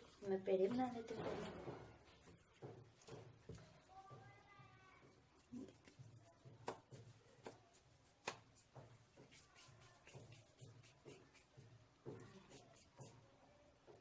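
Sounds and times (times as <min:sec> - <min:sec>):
hands rolling dough: 0:00.0 - 0:14.0.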